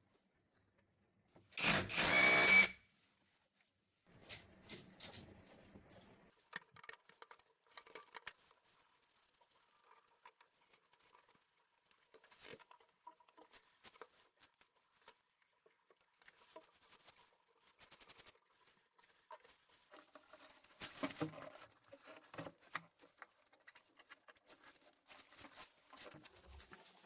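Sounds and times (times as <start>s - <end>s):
small objects clicking and rustling: 4.2s - 27.0s.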